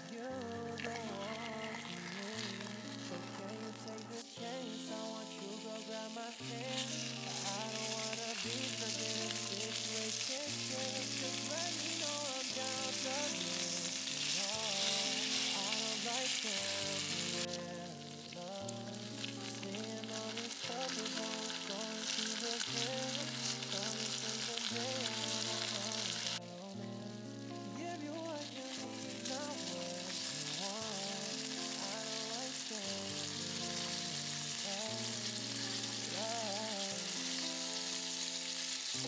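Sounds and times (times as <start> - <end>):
background music: 0.0 - 39.0
pork sizzling in frying pan: 0.0 - 39.0.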